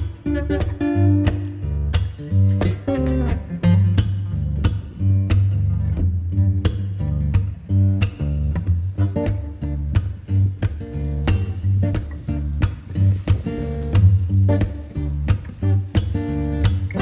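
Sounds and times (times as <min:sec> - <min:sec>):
plucked and strummed guitar: 0:00.0 - 0:17.0
pulsing bass beat: 0:00.6 - 0:17.0.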